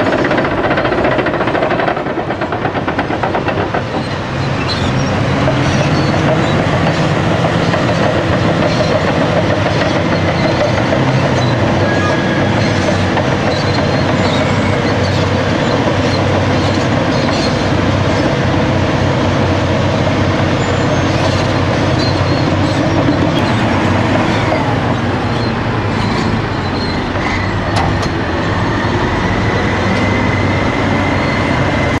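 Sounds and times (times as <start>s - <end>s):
heavy diesel engines under load: 0.0s - 32.0s
steel tracks clanking and rattling: 0.0s - 32.0s.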